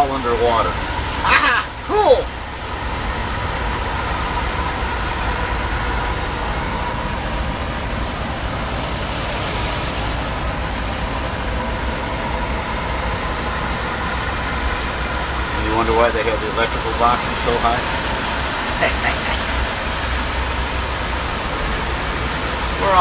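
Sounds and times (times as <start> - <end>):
van driving through flood water: 0.0 - 23.0.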